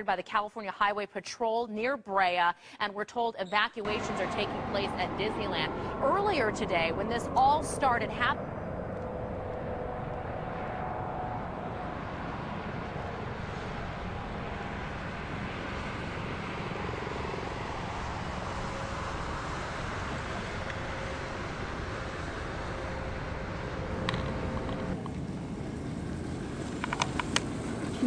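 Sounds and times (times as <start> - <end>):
steady low rumbling: 3.9 - 28.0.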